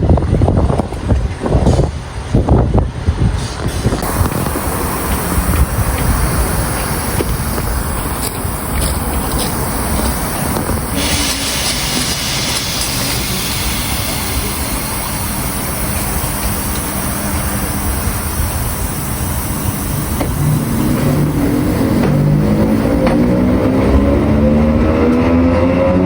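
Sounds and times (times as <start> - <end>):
train rumbling: 0.0 - 26.0
rising train whine: 0.2 - 26.0.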